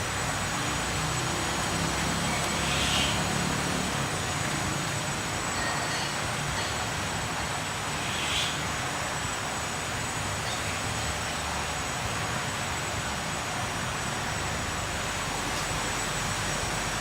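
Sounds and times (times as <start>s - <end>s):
steady hiss and rumble: 0.0s - 17.0s.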